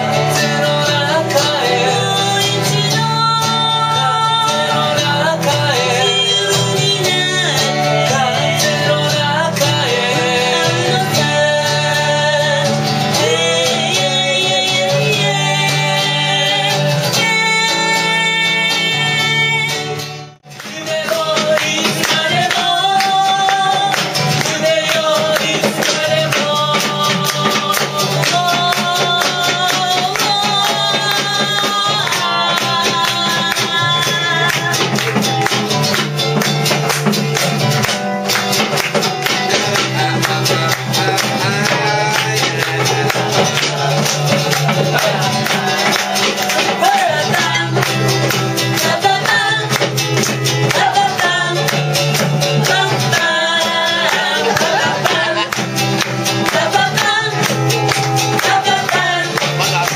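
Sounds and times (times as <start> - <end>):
woman singing into microphone: 0.0 - 20.0, 20.6 - 36.0, 39.2 - 59.9
man singing along: 0.0 - 35.5, 39.1 - 59.9
strummed guitar: 0.0 - 59.9.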